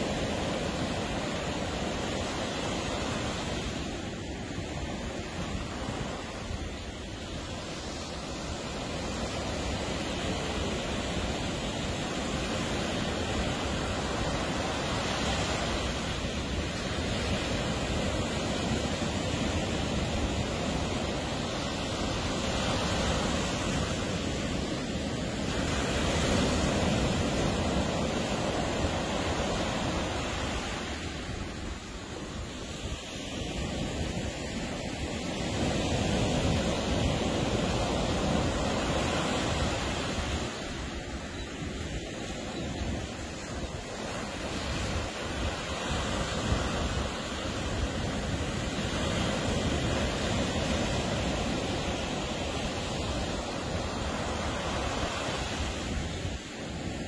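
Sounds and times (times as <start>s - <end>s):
ocean surf washing onto beach: 0.0s - 57.0s.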